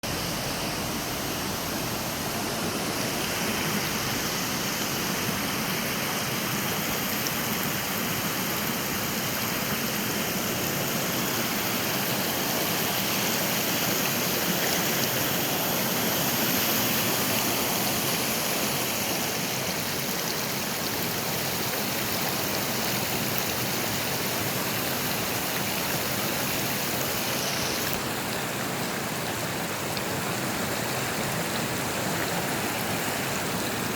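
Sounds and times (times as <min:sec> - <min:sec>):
stream flowing: 0:00.0 - 0:33.9.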